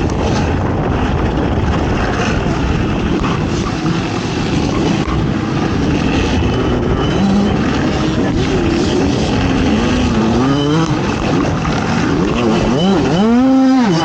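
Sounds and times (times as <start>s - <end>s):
atv engine running hard: 0.0s - 14.0s.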